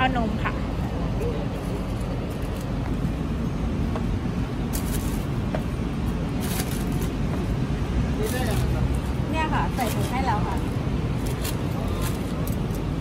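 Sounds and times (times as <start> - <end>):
street background rumble: 0.0 - 13.0.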